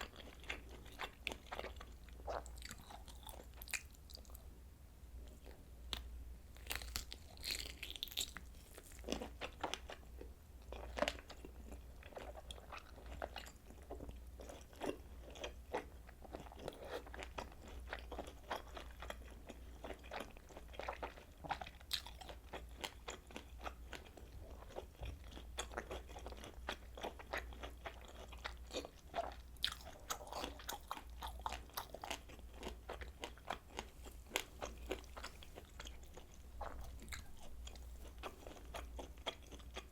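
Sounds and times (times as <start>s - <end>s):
crunchy chewing and biting: 0.0s - 4.4s, 6.6s - 10.0s, 10.7s - 39.9s
faint low hum: 0.0s - 39.9s.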